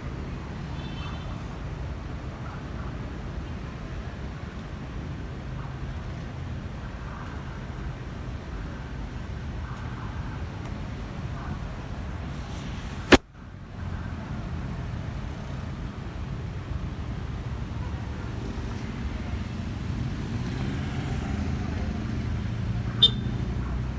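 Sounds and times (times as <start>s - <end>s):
city road traffic rumble: 0.0s - 23.9s.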